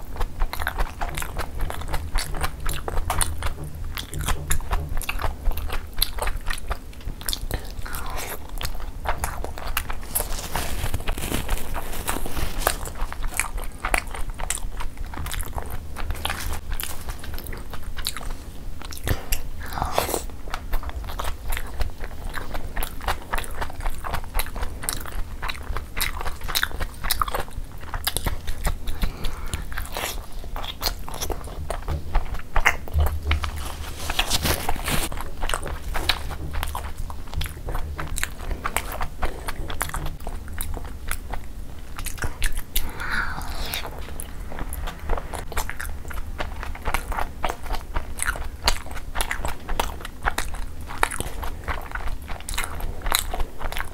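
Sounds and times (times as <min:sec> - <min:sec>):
wet chewing with mouth clicks: 0:00.0 - 0:53.9.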